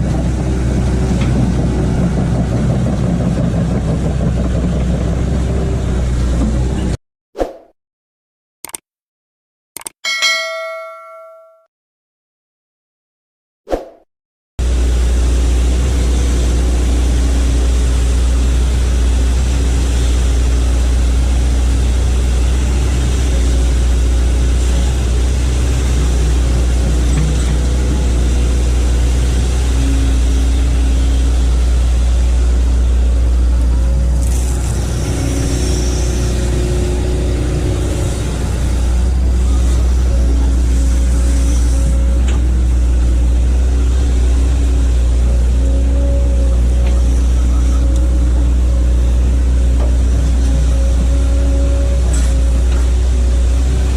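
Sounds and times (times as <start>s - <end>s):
excavator diesel engine running: 0.0s - 7.0s, 14.6s - 53.9s.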